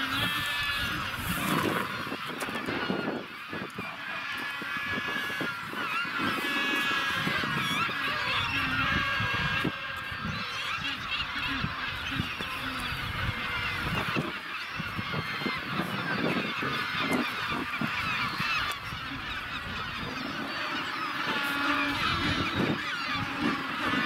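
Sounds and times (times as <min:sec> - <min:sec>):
chorus of penguin calls: 0:00.0 - 0:24.0.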